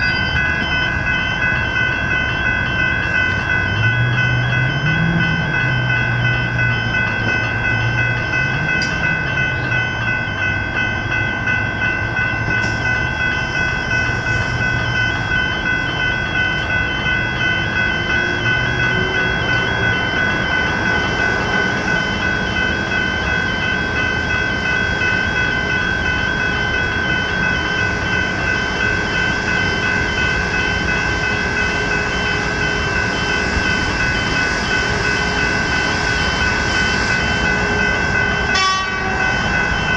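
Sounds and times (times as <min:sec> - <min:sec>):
level crossing bells ringing: 0:00.0 - 0:39.9
train passing: 0:00.0 - 0:39.9.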